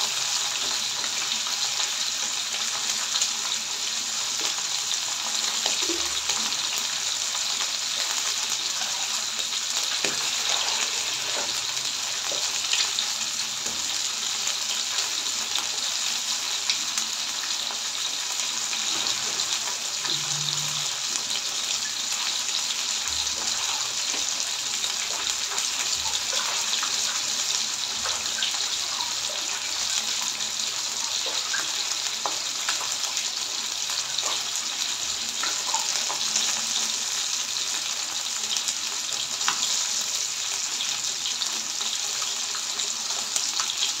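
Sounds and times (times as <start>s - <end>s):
fish sizzling in hot oil: 0.0s - 44.0s.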